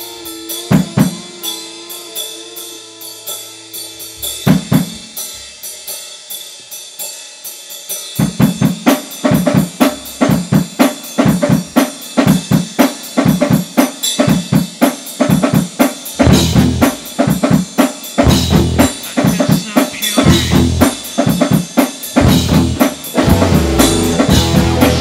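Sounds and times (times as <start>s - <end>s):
rock drum kit beat: 0.0s - 25.0s.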